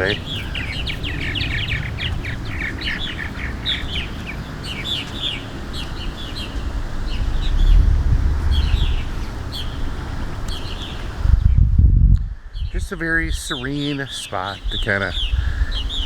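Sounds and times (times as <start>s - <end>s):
swallows twittering: 0.0s - 11.2s, 12.5s - 16.0s
wind rumbling on microphone: 0.0s - 16.0s.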